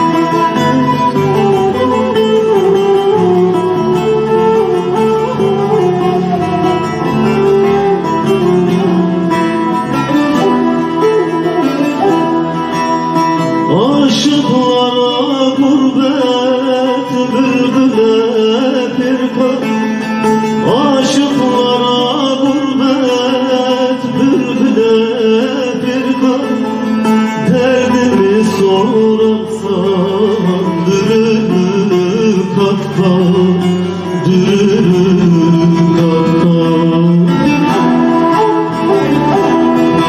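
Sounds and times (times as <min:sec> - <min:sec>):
man singing into a microphone: 0:00.0 - 0:40.0
plucked string instrument melody: 0:00.0 - 0:40.0.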